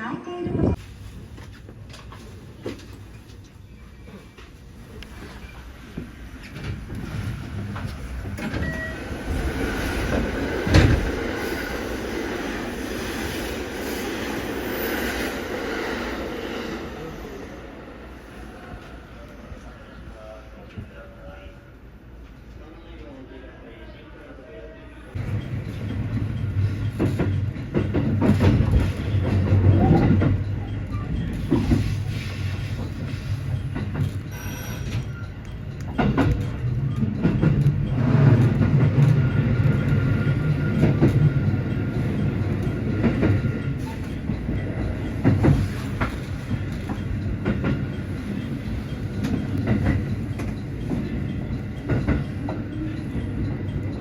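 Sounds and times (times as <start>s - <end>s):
train running on rails: 0.2s - 54.0s.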